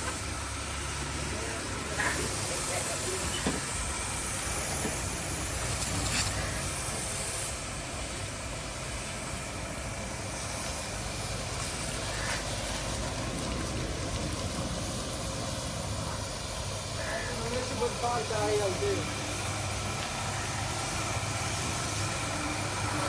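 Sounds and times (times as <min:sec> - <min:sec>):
heavy diesel engine idling: 0:00.0 - 0:23.0.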